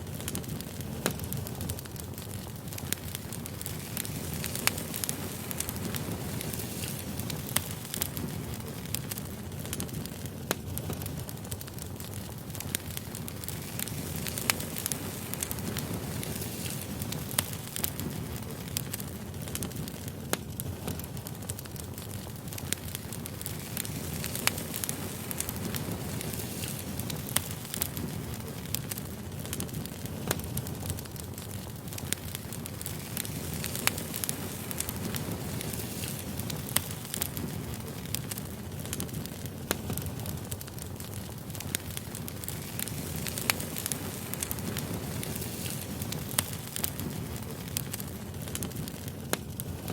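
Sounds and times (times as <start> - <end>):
campfire flames rumbling: 0.0 - 49.9
fire crackles and pops: 0.0 - 49.9.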